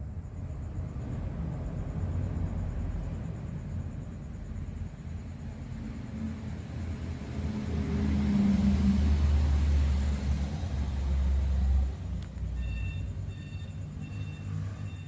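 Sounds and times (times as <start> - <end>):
passing vehicle rumble: 0.0 - 15.0.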